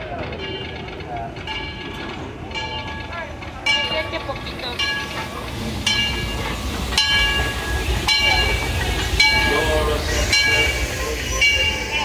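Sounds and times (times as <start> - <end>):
locomotive bell ringing: 0.0 - 12.0
steam locomotive rumbling: 0.0 - 12.0.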